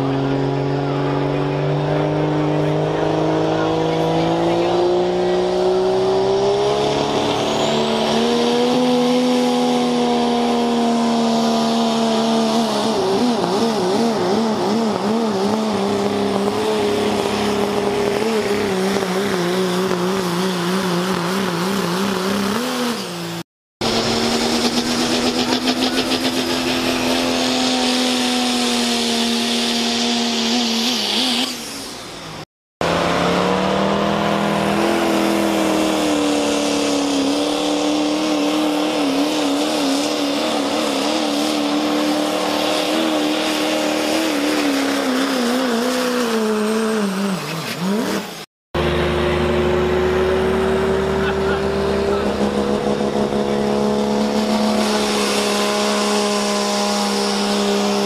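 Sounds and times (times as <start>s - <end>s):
diesel truck engine at full throttle: 0.0s - 58.0s
diesel truck revving: 0.0s - 58.0s
high turbo whine: 0.0s - 58.0s.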